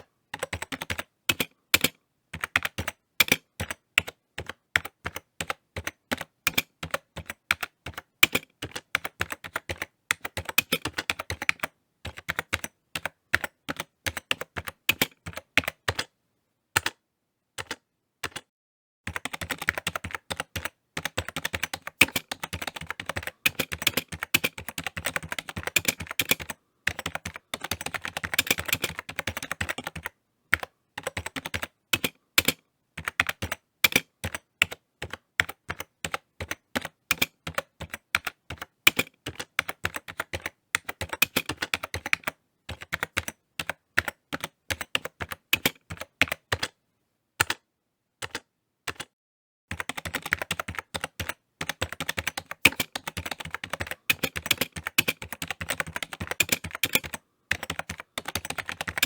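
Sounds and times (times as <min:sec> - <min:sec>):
computer keyboard key clicks: 0:00.4 - 0:16.1, 0:19.1 - 0:46.7, 0:49.7 - 0:59.0.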